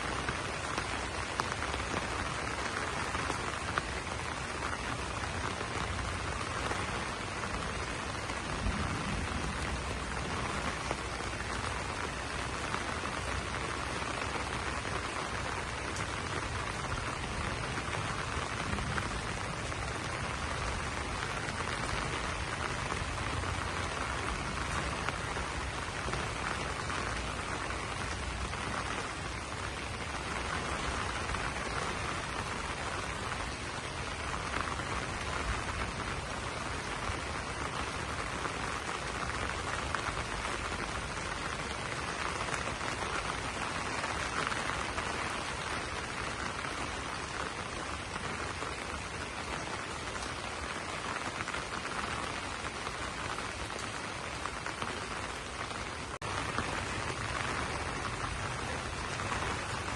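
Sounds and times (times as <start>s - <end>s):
rain on broad leaves: 0.0s - 59.9s.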